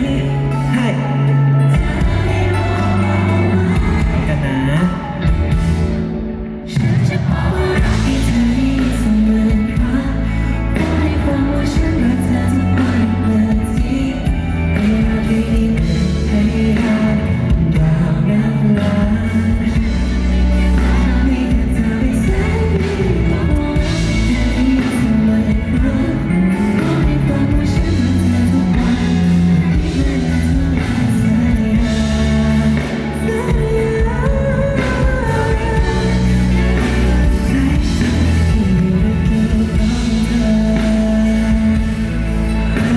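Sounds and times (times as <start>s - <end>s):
live band playing: 0.0s - 42.9s
man singing: 0.0s - 42.9s.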